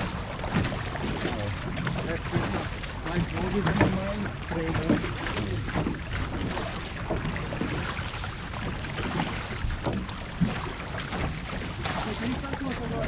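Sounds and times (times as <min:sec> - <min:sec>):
paddles splashing: 0:00.0 - 0:13.0
water washing along canoe hull: 0:00.0 - 0:13.0.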